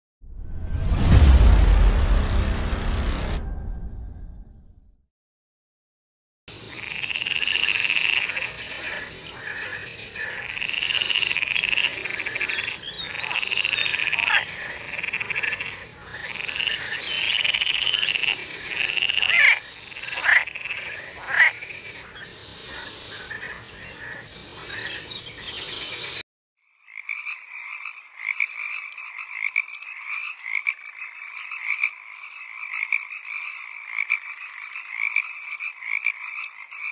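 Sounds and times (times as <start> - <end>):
frogs croaking: 6.5 - 36.9.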